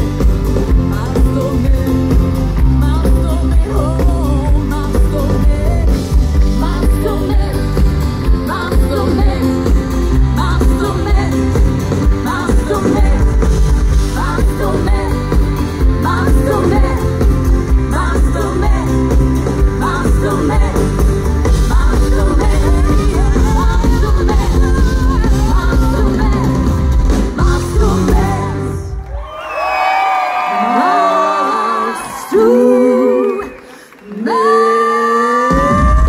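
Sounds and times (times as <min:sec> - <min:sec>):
live pop band playing: 0:00.0 - 0:29.4, 0:30.0 - 0:36.0
person singing: 0:00.6 - 0:29.0, 0:30.5 - 0:36.0.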